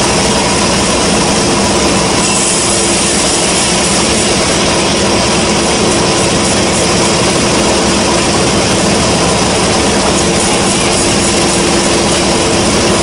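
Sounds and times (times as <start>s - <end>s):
bandsaw running: 0.0s - 13.0s.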